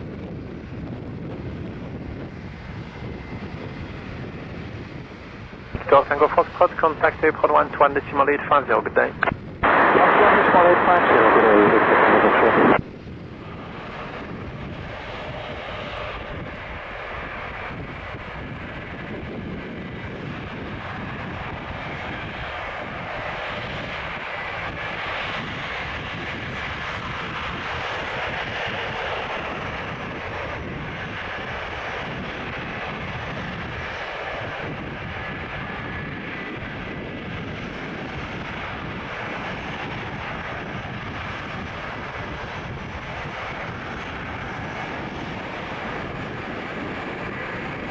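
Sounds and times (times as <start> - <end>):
jet engines running: 0.0 - 47.9
faint jet whine: 2.3 - 47.9.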